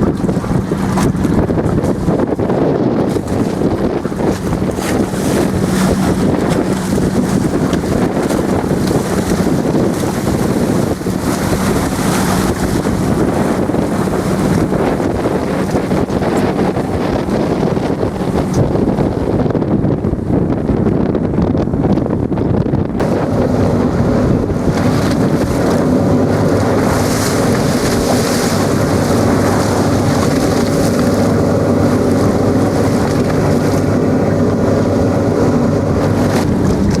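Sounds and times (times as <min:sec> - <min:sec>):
waves: 0:00.0 - 0:37.0
wind buffeting microphone: 0:00.0 - 0:37.0.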